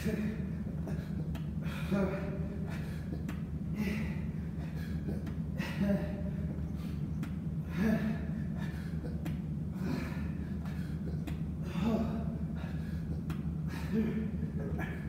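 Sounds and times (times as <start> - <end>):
man gasping breaths: 0.0 - 15.0
steady low hum: 0.0 - 15.0.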